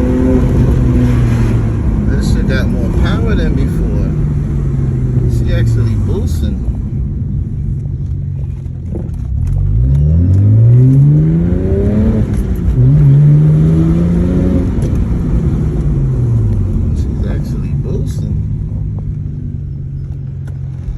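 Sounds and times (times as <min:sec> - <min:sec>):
car engine accelerating hard: 0:00.0 - 0:20.9.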